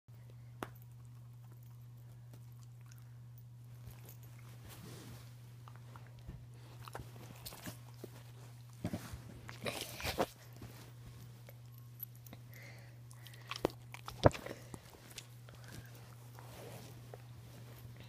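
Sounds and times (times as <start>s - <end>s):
steady low hum: 0.1s - 18.0s.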